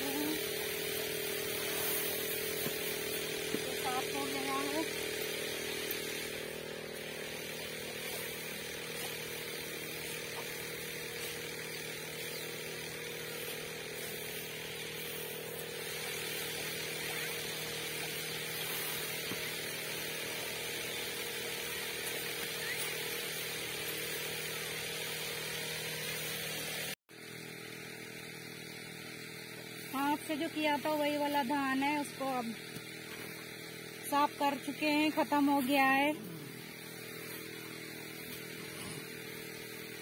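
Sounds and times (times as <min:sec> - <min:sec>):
machine humming steadily: 0:00.0 - 0:40.0.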